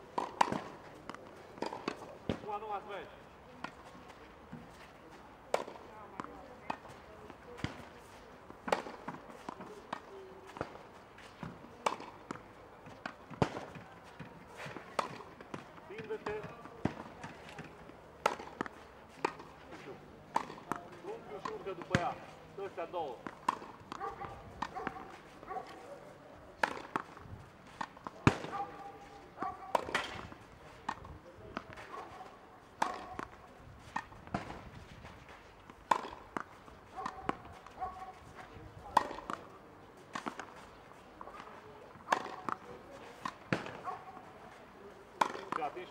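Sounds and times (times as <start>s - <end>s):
tennis racket hitting ball: 0.1s - 2.7s, 5.5s - 25.9s, 26.6s - 45.9s
ball bouncing on clay court: 0.1s - 4.9s, 5.5s - 45.9s.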